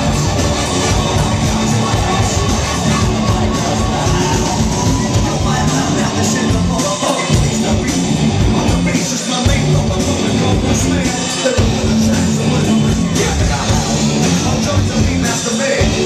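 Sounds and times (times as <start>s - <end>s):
drums: 0.0s - 16.0s
live rock band playing: 0.0s - 16.0s
vocals: 0.0s - 16.0s.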